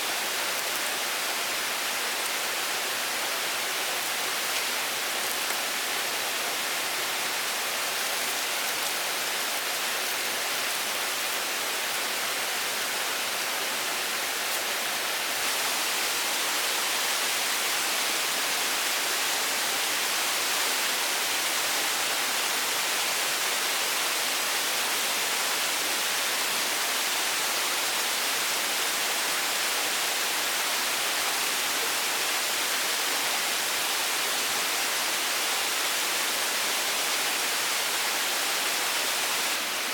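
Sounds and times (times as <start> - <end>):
hiss of running water: 0.0 - 39.9.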